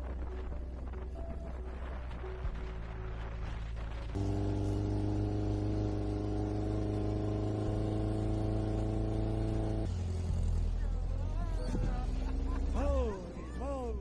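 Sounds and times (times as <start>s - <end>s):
dune buggy engine running: 0.0s - 14.0s.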